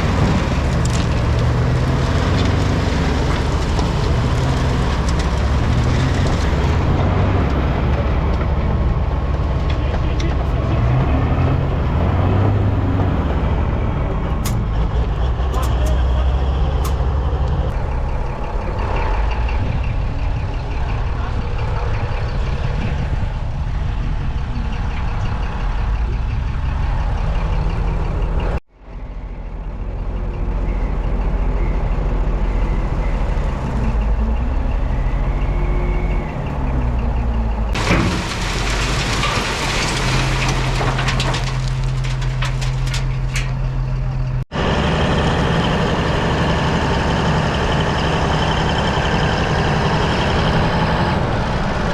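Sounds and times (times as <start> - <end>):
diesel engine running hard: 0.0 - 28.6, 29.6 - 51.9.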